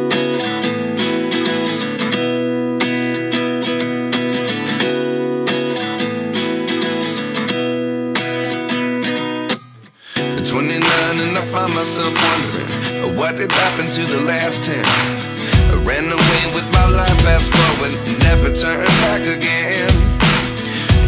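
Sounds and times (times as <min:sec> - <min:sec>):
strummed acoustic guitar chords: 0:00.0 - 0:21.0.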